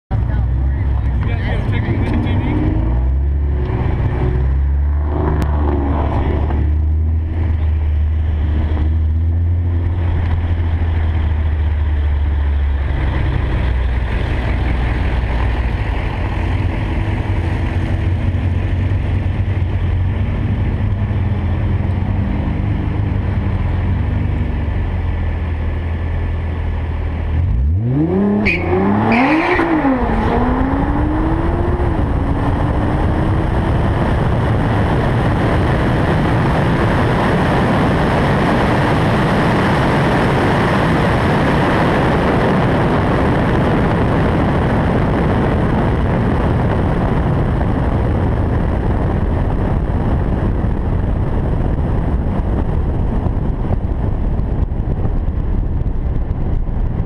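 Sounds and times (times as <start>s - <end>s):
drag car engine revving: 0.1s - 24.9s, 27.2s - 50.4s
wind on microphone: 0.1s - 57.0s.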